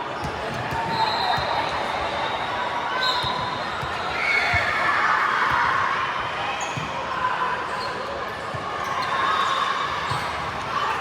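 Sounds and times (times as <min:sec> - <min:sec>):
murmur of people in hall: 0:00.0 - 0:11.0.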